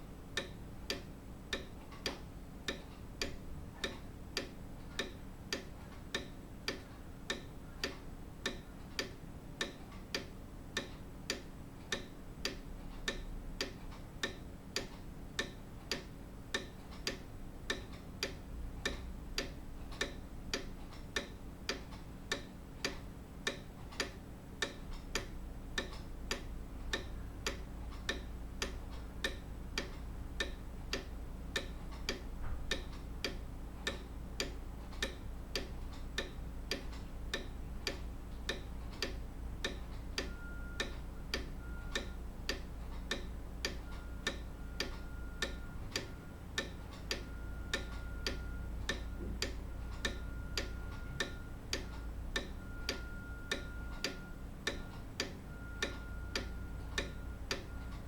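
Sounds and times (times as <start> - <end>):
grandfather clock ticking: 0.0 - 58.0.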